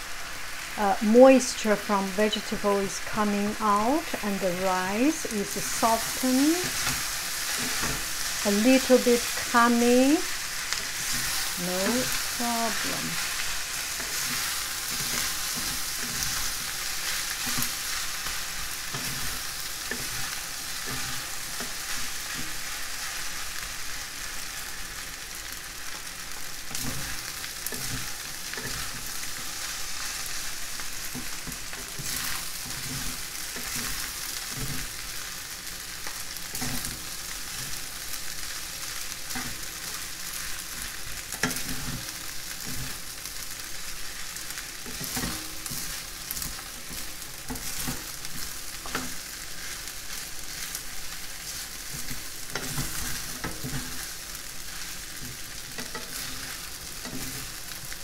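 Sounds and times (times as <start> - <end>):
rice and vegetables sizzling: 0.0 - 58.0
wooden utensils scraping a pan: 5.5 - 23.8, 26.6 - 35.4, 36.0 - 58.0.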